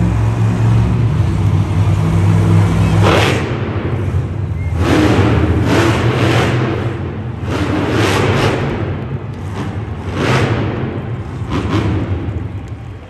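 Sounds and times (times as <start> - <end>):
engine surges: 0.0 - 13.0
vehicle engines rumbling: 0.0 - 13.0.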